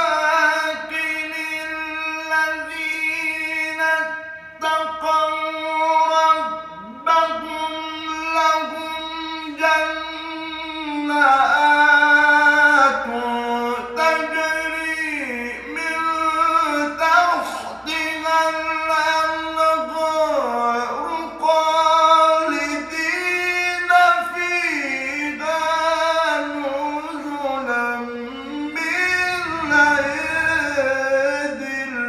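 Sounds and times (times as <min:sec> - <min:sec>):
man chanting religious recitation: 0:00.0 - 0:32.0.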